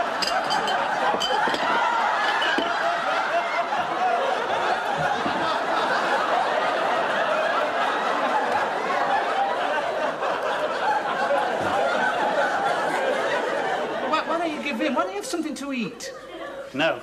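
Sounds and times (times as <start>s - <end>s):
audience laughing: 0.0s - 17.0s.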